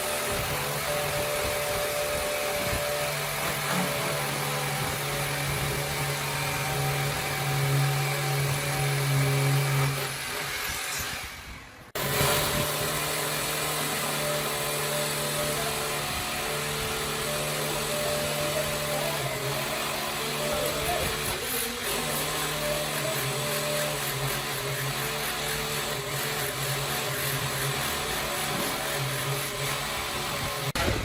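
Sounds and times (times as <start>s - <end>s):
power tool motor whining: 0.0s - 31.0s.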